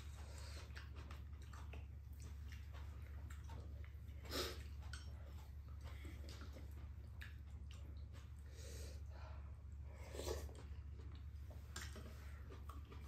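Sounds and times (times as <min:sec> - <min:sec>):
people chewing: 0:00.0 - 0:13.0.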